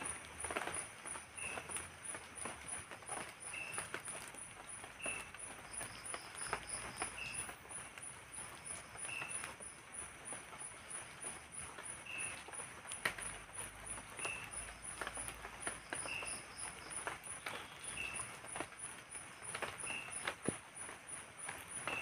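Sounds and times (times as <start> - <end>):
drizzle drops ticking on tarp: 0.0 - 22.0
insect chirping: 0.0 - 22.0.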